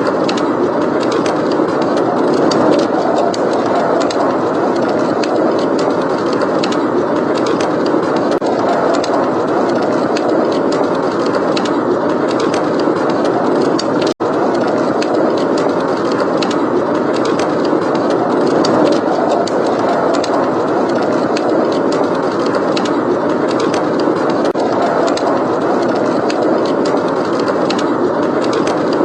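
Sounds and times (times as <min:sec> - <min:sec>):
loud blizzard wind: 0:00.0 - 0:29.0
wood fire crackling: 0:00.0 - 0:29.0.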